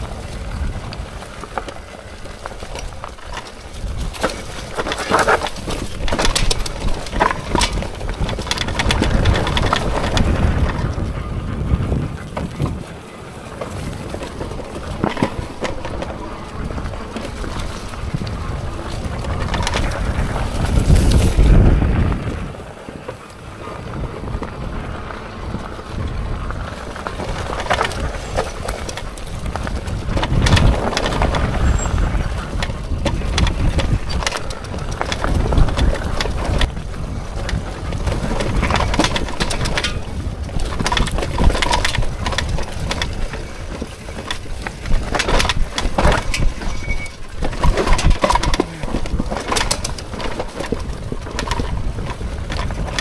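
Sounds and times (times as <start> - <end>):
bike rattling over stones: 0.0 - 53.0
tyres rumbling: 0.0 - 53.0
wind: 0.0 - 53.0.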